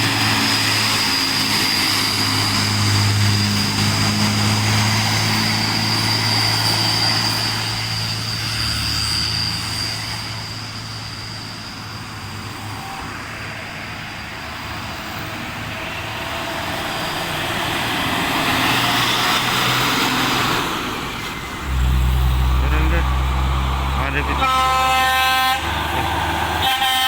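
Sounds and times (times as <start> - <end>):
truck engine drone: 0.0 - 27.0
tyre and road noise: 0.0 - 27.0
vehicle approaching: 0.0 - 27.0.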